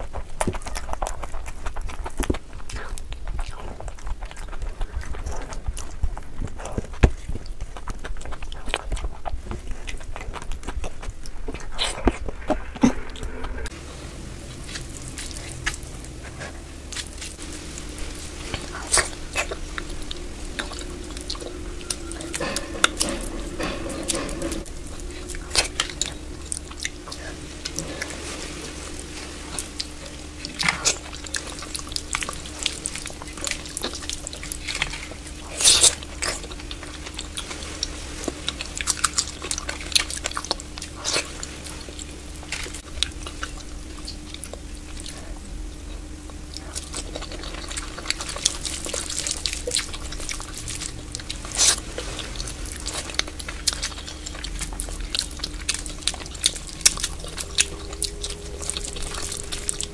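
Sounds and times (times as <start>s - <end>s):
wet chewing and lip smacks: 0.0s - 13.8s, 14.5s - 59.9s.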